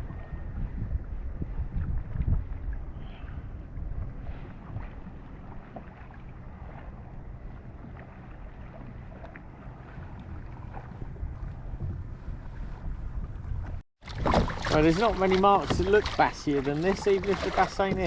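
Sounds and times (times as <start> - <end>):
faint water sounds: 0.0 - 18.0
wind rumbling on microphone: 0.0 - 18.0.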